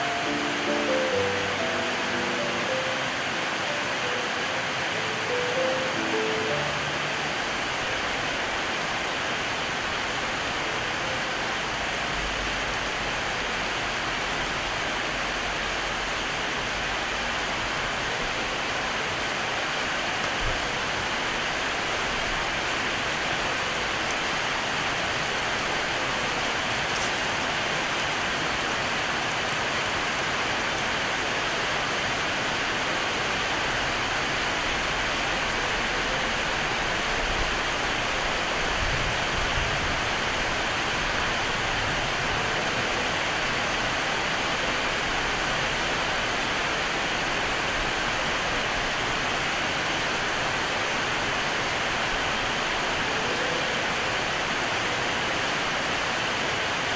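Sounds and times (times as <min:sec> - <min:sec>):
rain on a tin roof: 0:00.0 - 0:56.9.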